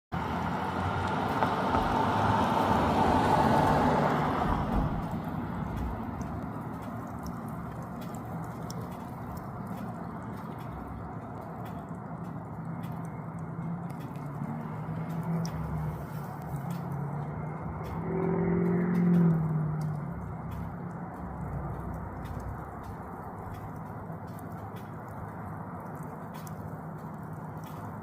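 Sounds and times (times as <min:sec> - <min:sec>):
vehicle passing: 0:00.1 - 0:28.0
faint ticks: 0:04.5 - 0:28.0.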